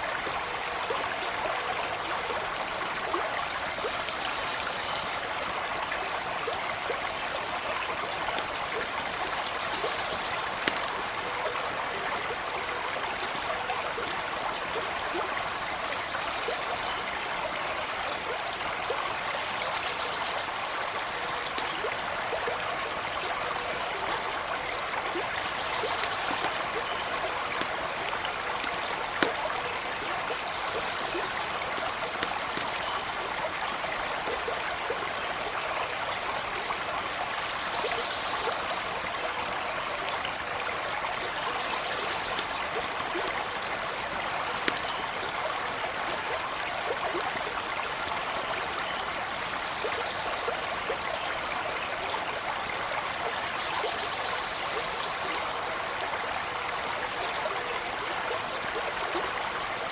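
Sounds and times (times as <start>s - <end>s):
small stream running: 0.0s - 59.9s
campfire crackling and popping: 5.3s - 39.4s, 40.0s - 53.6s, 54.8s - 59.9s.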